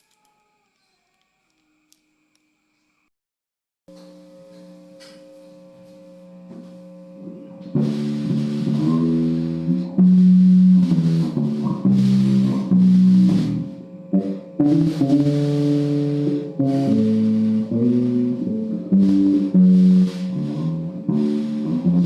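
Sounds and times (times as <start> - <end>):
electric guitar with bass and drums: 4.0 - 22.0.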